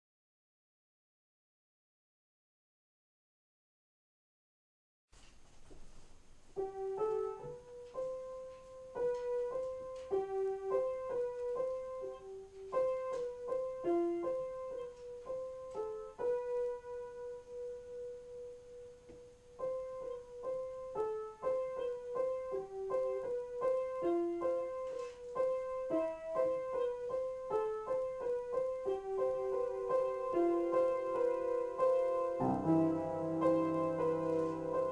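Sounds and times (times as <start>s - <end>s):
piano improvisation: 5.8s - 34.9s.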